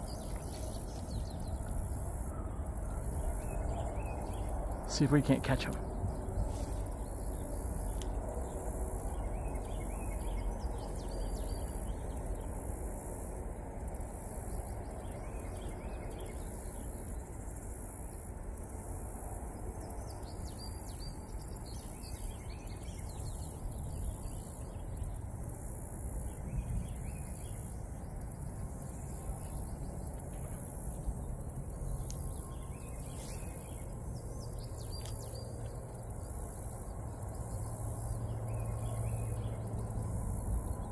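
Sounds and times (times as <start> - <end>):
insect chorus pulsing drone: 0.0 - 40.9.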